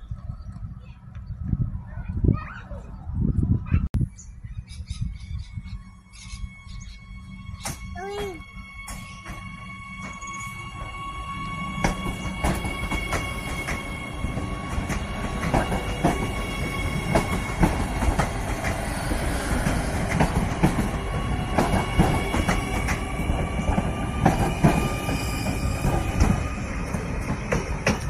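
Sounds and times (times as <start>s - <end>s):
high-pitched train whine: 4.7s - 28.0s.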